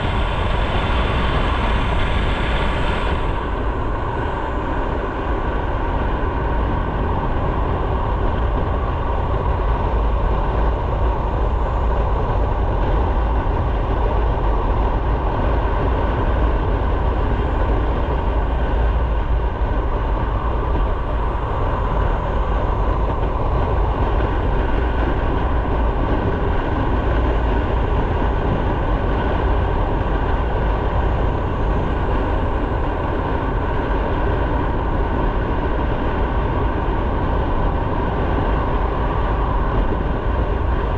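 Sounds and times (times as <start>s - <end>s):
road noise: 0.0s - 40.9s
wind noise: 0.0s - 40.9s.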